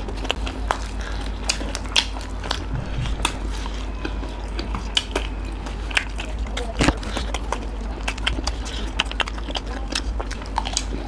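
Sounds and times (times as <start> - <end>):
chewing clicks: 0.0 - 3.7, 4.5 - 11.0
steady low hum: 0.0 - 11.0.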